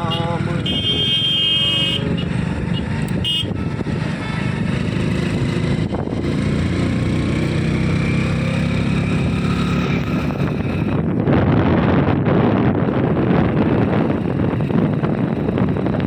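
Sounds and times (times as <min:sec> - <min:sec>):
wind rushing over microphone: 0:02.0 - 0:16.0.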